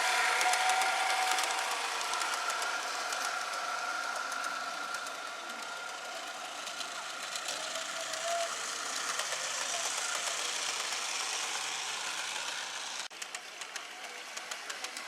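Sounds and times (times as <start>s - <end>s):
model train rattling on track: 0.0s - 15.0s.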